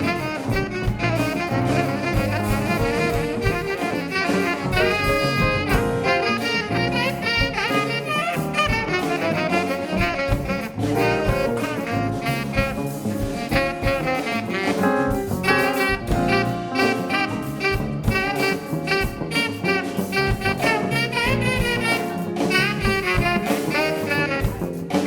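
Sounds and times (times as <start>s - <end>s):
drum beat: 0.0s - 25.0s
horn melody: 0.0s - 25.0s
live jazz band: 0.0s - 25.0s.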